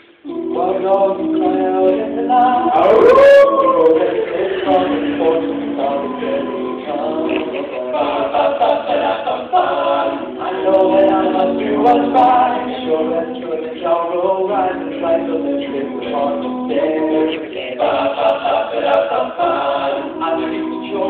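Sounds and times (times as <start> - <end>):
male vocal group singing a cappella: 0.2 - 21.0.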